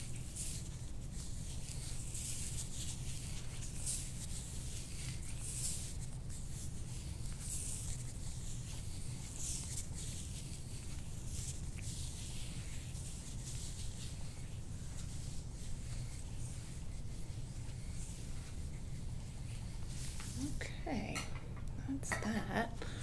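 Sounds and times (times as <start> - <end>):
hands rubbing through hair: 0.0 - 20.6
low steady hum: 0.0 - 23.0.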